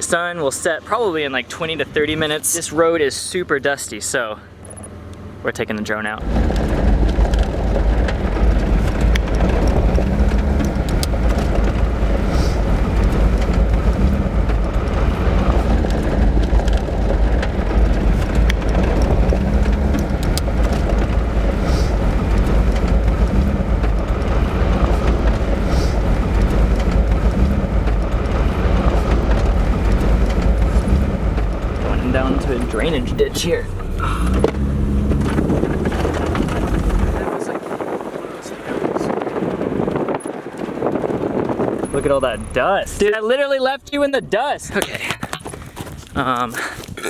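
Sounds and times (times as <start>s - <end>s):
vehicle rumbling on dirt road: 0.0s - 47.0s
wind noise: 6.2s - 47.0s.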